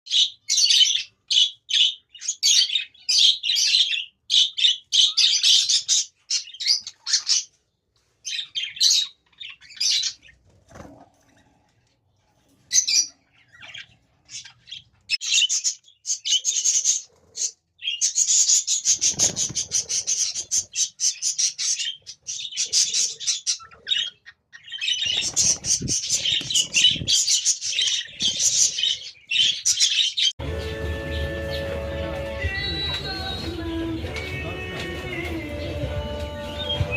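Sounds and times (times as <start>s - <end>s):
small birds chirping: 0.1s - 30.4s.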